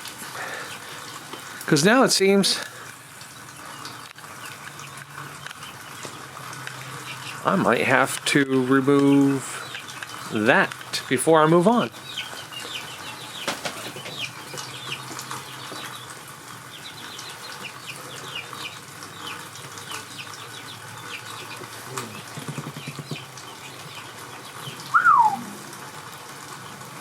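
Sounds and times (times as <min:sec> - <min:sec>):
birds chirping: 0:00.3 - 0:26.8.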